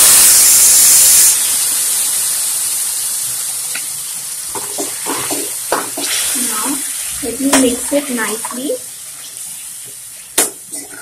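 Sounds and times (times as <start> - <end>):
leaves sizzling in hot oil: 0.0 - 11.0.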